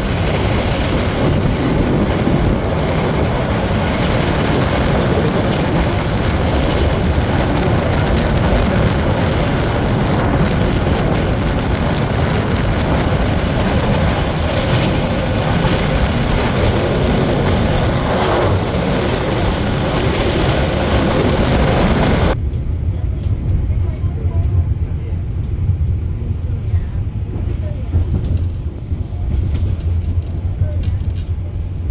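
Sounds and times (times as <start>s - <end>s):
train wheels on rails: 0.0s - 31.9s.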